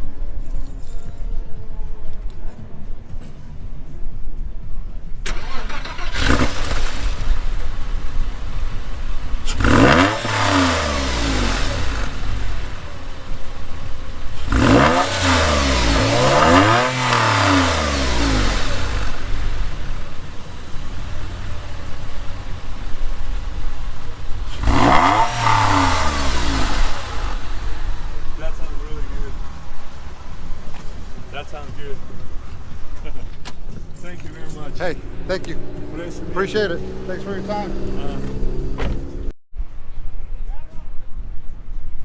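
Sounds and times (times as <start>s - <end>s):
car engine revving: 5.2s - 39.3s.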